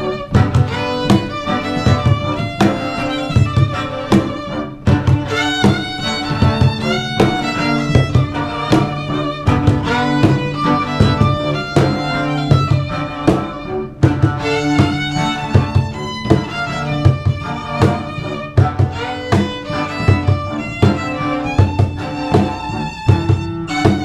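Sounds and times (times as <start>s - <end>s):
instrumental band music: 0.0s - 24.0s.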